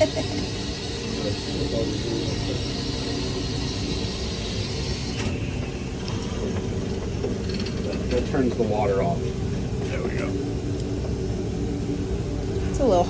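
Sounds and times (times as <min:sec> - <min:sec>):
low rumble: 0:00.0 - 0:13.0
steam hissing: 0:00.0 - 0:13.0.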